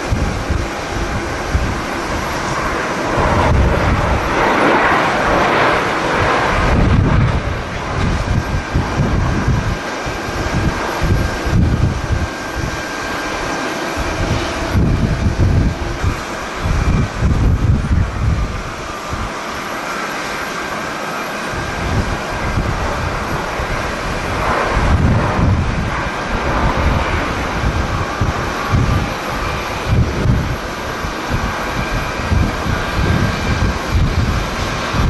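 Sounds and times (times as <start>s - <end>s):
jet engines rushing: 0.0s - 35.0s
wind buffeting microphone: 0.0s - 35.0s.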